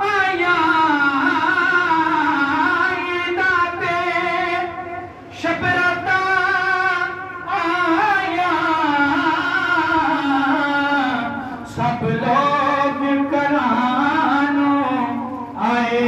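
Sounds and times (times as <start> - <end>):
person singing devotional recitation: 0.0 - 16.0.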